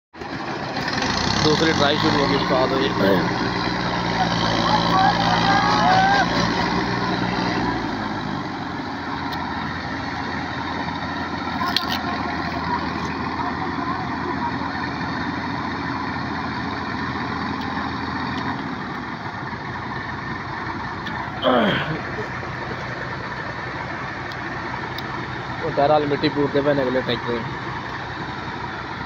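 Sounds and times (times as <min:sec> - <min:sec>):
tractor diesel engine running: 0:00.2 - 0:29.0.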